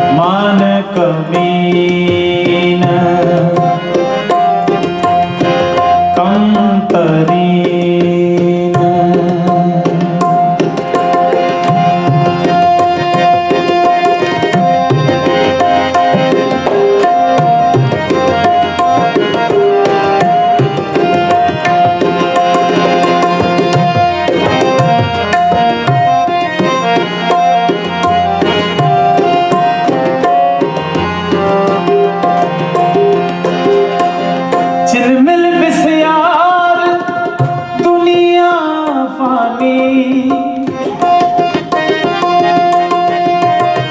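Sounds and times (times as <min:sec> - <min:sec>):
harmonium melody: 0:00.0 - 0:43.9
tabla rhythm: 0:00.0 - 0:43.9.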